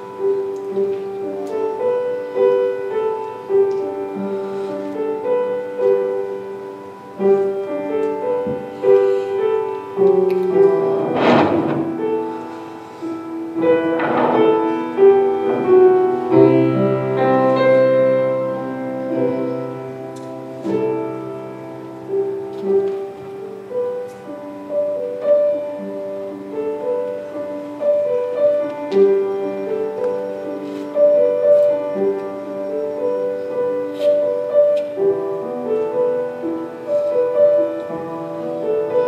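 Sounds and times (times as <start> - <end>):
slow piano music: 0.0 - 39.0.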